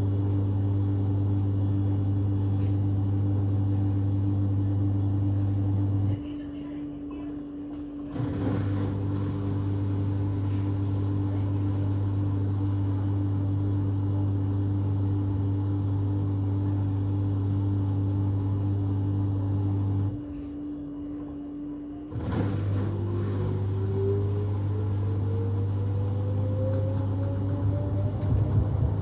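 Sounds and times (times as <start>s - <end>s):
washing machine motor humming: 0.0s - 29.0s.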